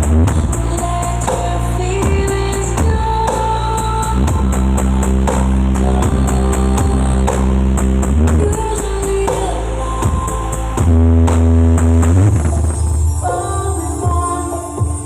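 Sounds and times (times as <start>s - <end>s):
loud bass-heavy music with beat: 0.0s - 15.0s.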